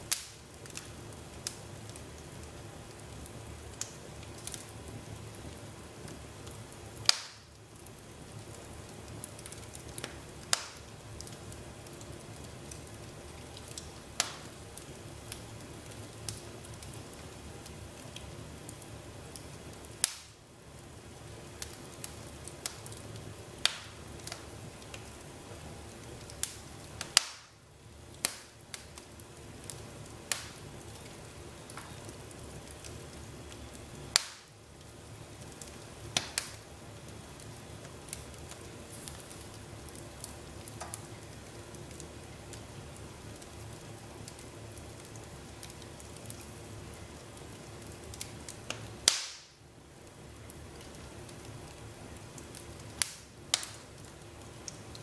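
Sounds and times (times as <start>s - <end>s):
fire popping: 0.0s - 55.0s
wood fire crackling: 0.0s - 55.0s.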